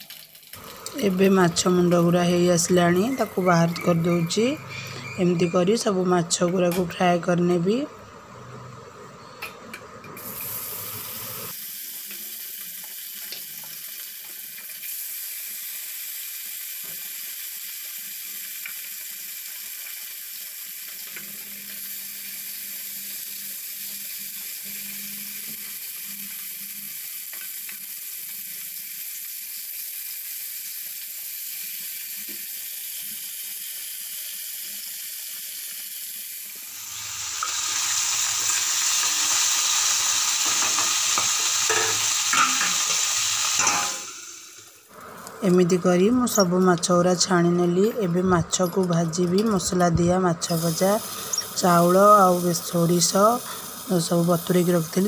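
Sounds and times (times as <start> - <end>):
fish sizzling in hot oil: 0.0 - 5.2, 10.2 - 47.2, 50.4 - 55.0.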